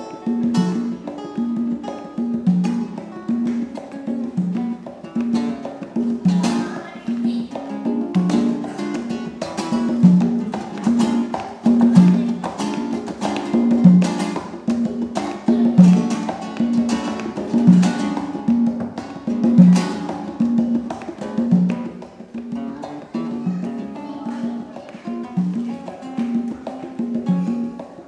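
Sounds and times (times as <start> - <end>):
acoustic guitar: 0.0 - 28.0
congas slaps and tones: 0.0 - 28.0.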